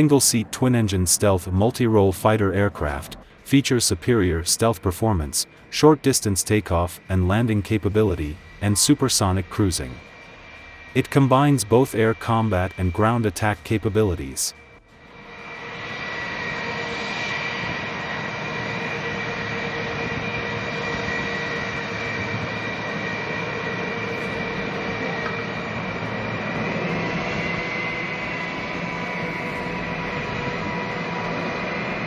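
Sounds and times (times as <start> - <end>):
jet engines roaring with whine: 0.0 - 32.0.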